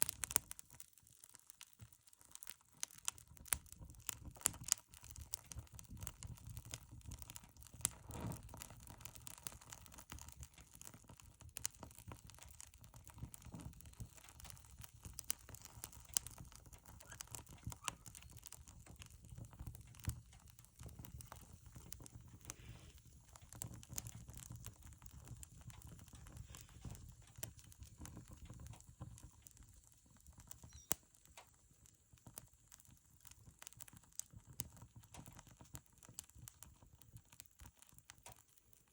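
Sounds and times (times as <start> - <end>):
firewood crackling and popping: 0.0 - 38.9
low stove rumble: 2.1 - 38.4.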